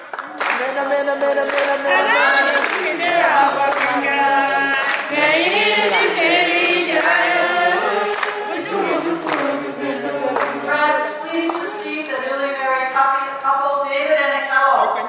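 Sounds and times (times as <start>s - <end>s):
group of voices singing: 0.4s - 13.0s.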